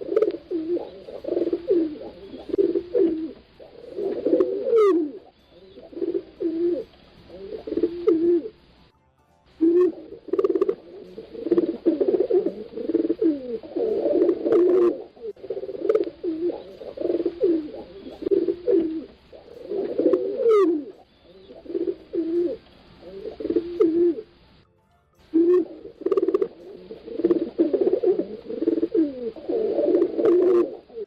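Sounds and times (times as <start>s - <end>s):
pigeons cooing: 0.0s - 8.8s, 9.6s - 24.5s, 25.3s - 31.0s.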